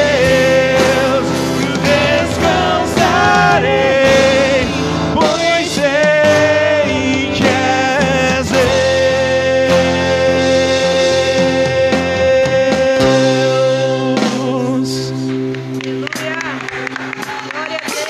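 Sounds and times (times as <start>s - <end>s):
person singing wordless melody: 0.0s - 15.5s
acoustic guitar: 0.0s - 18.0s
keyboard: 0.0s - 18.0s.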